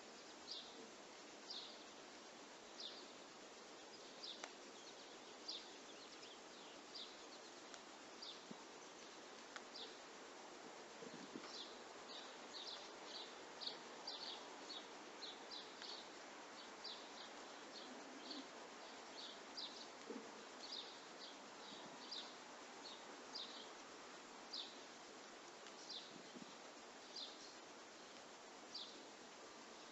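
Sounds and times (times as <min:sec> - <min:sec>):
quiet steady hiss: 0:00.0 - 0:29.9
small birds chirping: 0:00.0 - 0:29.9.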